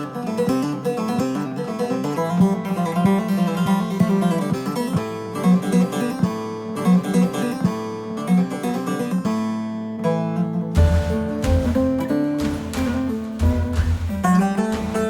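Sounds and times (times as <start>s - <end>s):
plucked long-necked lute folk music: 0.0s - 15.0s.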